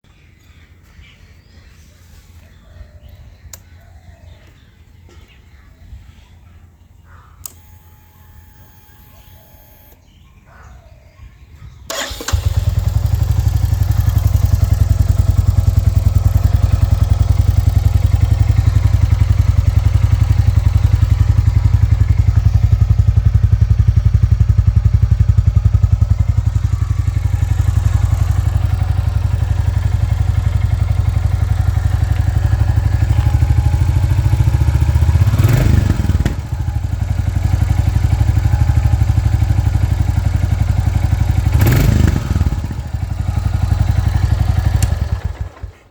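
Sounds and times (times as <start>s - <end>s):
motorcycle engine starting and idling: 7.4s - 10.1s, 11.8s - 45.9s.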